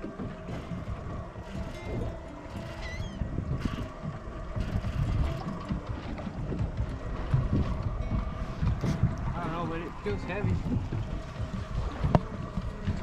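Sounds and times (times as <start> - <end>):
wind gusting on microphone: 0.0 - 13.0.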